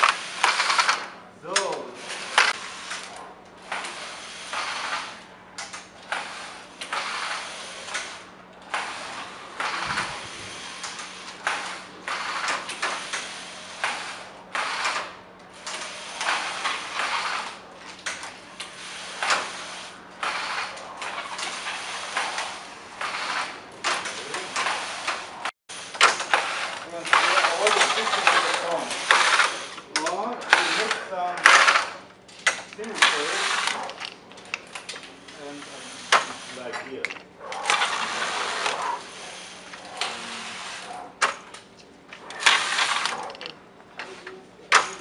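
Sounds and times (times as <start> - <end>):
knitting machine carriage sliding: 0.0 - 45.0.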